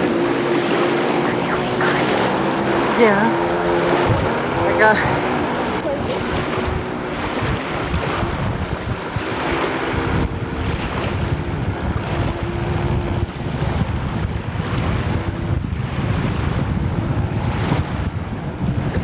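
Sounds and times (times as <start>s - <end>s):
water washing: 0.0s - 15.7s
faint jet ski engine humming: 0.0s - 19.0s
wind buffeting microphone: 0.0s - 19.0s.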